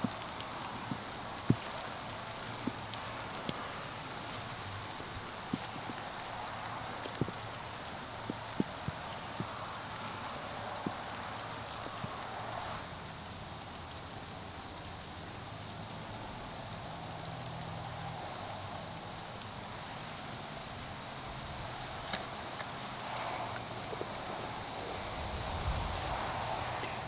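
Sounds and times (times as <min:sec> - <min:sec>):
light rain pattering: 0:00.0 - 0:27.0
sharp ticks of raindrops: 0:00.0 - 0:27.0.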